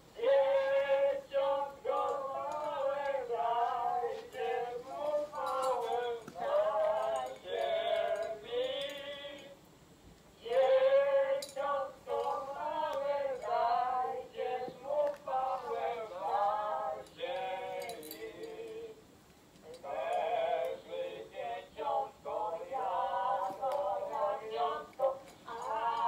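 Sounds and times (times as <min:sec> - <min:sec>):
singing from tinny speaker: 0:00.0 - 0:09.6, 0:10.4 - 0:19.0, 0:19.6 - 0:26.0.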